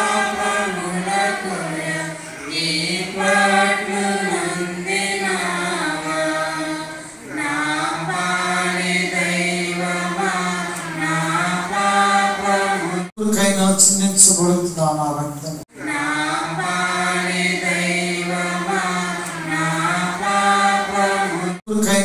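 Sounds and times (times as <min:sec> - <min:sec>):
person singing a slow hymn: 0:00.0 - 0:13.6, 0:15.7 - 0:22.0.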